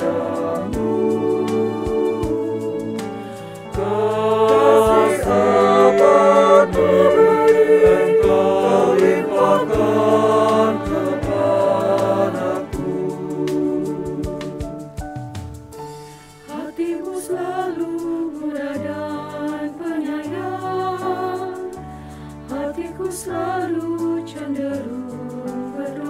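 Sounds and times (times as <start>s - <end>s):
choir singing a hymn: 0.0s - 14.9s, 16.4s - 26.0s
instrumental accompaniment: 0.0s - 26.0s.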